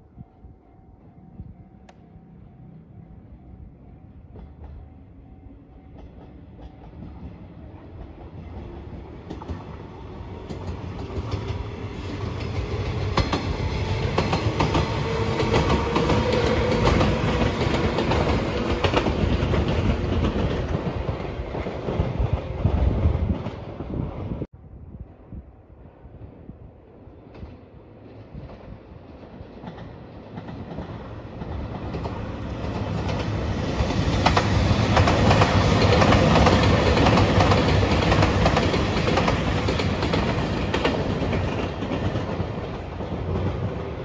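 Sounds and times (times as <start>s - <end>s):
electric train hum: 0.0s - 44.0s.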